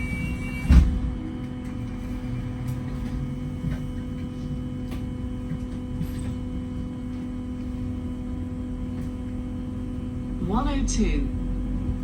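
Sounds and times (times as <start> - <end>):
bus interior hum and rumble: 0.0 - 12.0.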